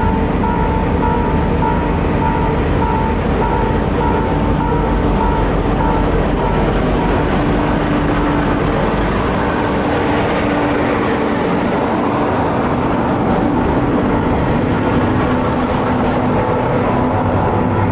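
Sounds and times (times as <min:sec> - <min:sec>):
diesel engines humming: 0:00.0 - 0:17.9
wheels rumbling on rails: 0:00.0 - 0:17.9.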